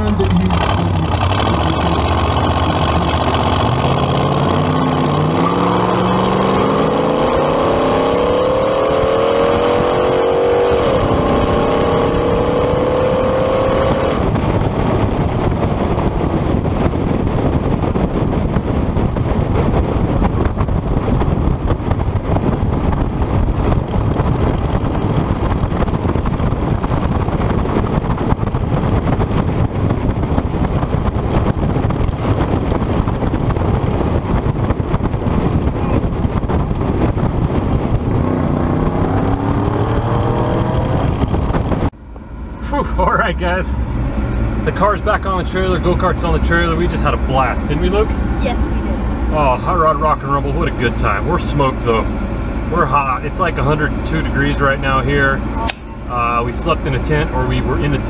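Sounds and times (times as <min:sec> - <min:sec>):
hot rod engine revving: 0:00.0 - 0:20.4, 0:21.0 - 0:58.0
wind rushing: 0:03.2 - 0:58.0.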